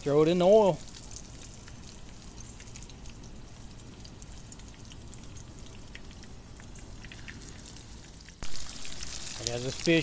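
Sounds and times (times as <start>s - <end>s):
fish frying in oil: 0.0s - 10.0s
oil popping and crackling: 0.0s - 10.0s.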